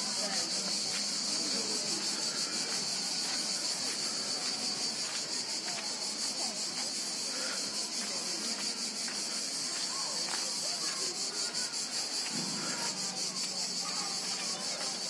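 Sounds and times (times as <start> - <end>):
cicadas buzzing: 0.0 - 15.0
distant voices: 0.0 - 15.0.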